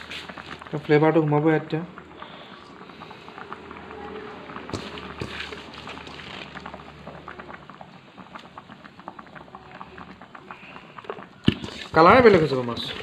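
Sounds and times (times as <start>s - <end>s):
broth boiling with popping bubbles: 0.0s - 13.0s.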